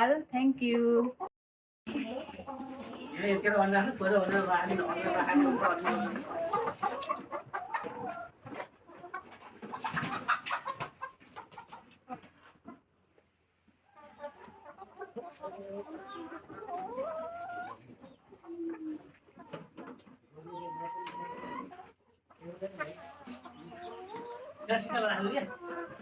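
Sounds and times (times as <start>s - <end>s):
chickens clucking: 1.9s - 26.0s.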